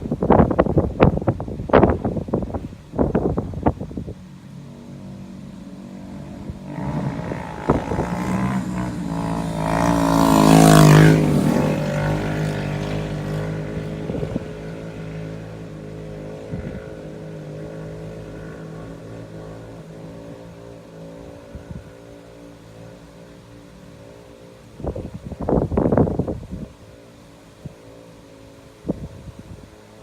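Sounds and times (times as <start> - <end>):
vehicle engine passing by: 2.9 - 30.0.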